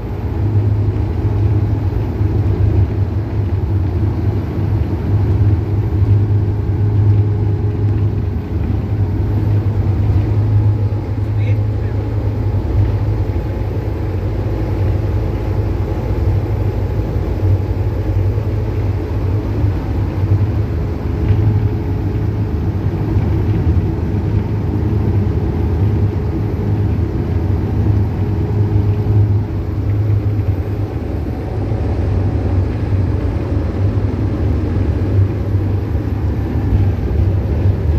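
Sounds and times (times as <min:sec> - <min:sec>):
bus engine and road rumble: 0:00.0 - 0:37.9.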